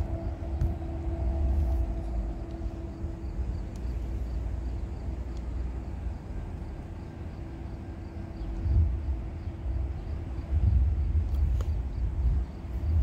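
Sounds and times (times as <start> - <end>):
steady hum: 0.0 - 13.0
train rumble: 0.0 - 13.0.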